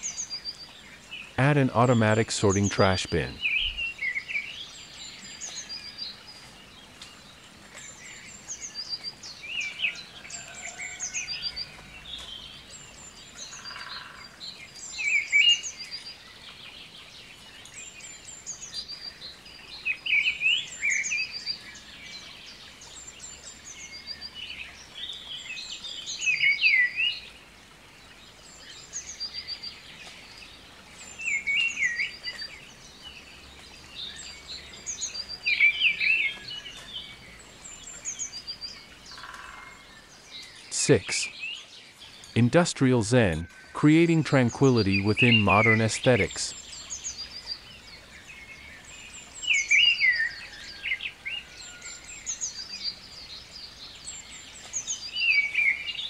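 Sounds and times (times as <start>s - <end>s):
birds chirping and trilling: 0.0s - 56.0s
faint background hiss: 0.0s - 56.0s.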